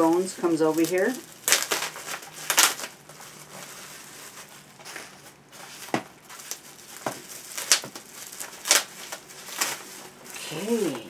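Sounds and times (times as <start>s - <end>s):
sharp crackles: 0.0s - 5.1s, 5.8s - 11.0s
bubble-wrap mailer crinkling: 0.0s - 11.0s.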